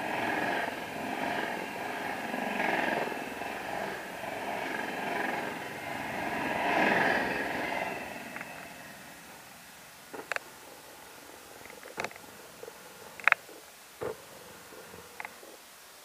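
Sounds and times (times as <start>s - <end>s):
train wheels clattering on rails: 0.0s - 15.6s.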